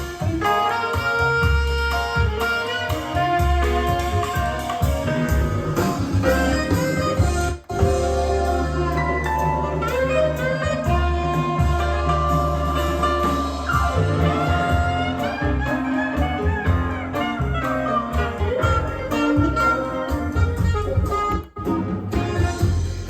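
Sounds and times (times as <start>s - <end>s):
jazz-blues music with horns and bass: 0.0s - 23.0s.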